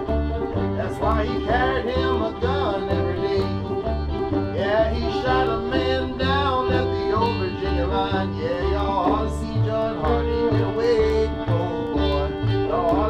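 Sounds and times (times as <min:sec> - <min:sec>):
banjo: 0:00.0 - 0:13.0
fiddle: 0:00.0 - 0:13.0
upright bass plucking: 0:00.0 - 0:13.0.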